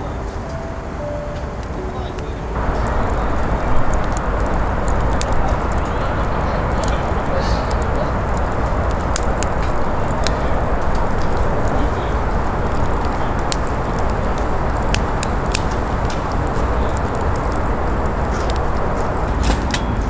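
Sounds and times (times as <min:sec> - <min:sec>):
campfire crackling and popping: 0:00.0 - 0:20.0
low rushing noise: 0:00.0 - 0:20.0.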